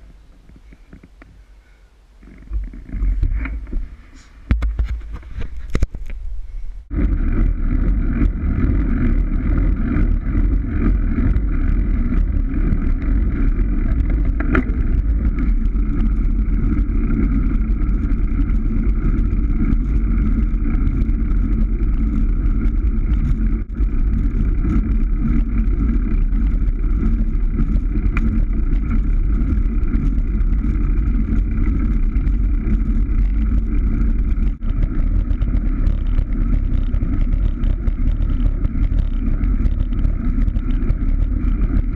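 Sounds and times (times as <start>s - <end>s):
road noise: 0.0s - 41.9s.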